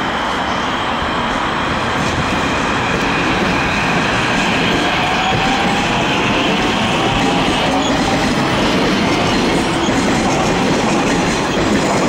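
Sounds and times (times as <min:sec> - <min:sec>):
metro train rumbling on track: 0:00.0 - 0:12.0.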